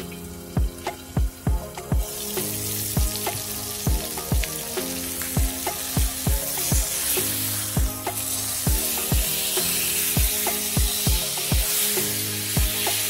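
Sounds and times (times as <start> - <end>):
chicken sizzling in oil: 0.0 - 13.0
music with drum beat: 0.0 - 13.0.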